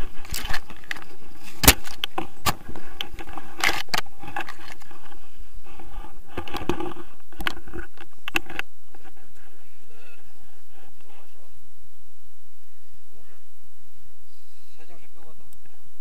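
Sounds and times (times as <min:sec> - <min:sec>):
low steady noise: 0:00.0 - 0:16.0.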